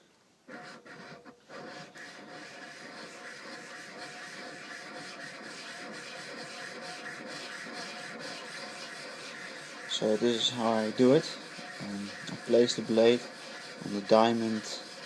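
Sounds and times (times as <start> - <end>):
blade scraping on sharpening stone: 0.6 - 15.0.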